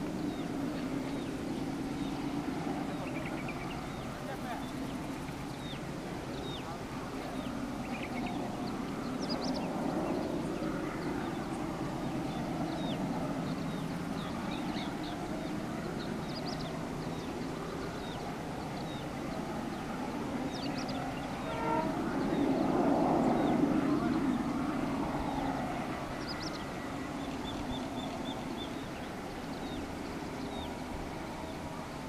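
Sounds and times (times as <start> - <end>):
distant diesel locomotive rumble: 0.0 - 32.0
small birds chirping: 0.0 - 32.0.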